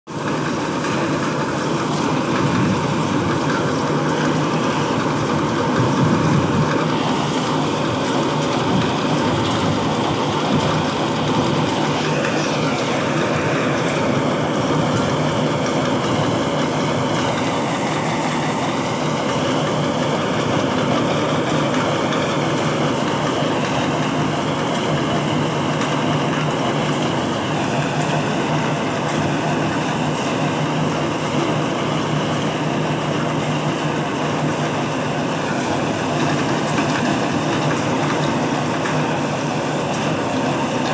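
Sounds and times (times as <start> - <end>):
mechanical whine of machinery: 0.1 - 40.9
tractor diesel engine running: 0.1 - 40.9.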